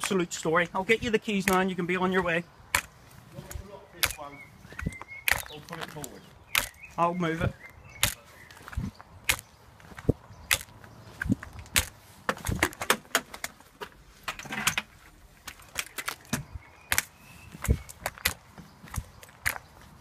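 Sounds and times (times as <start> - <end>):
footsteps on concrete: 0.9 - 12.7, 15.4 - 20.0.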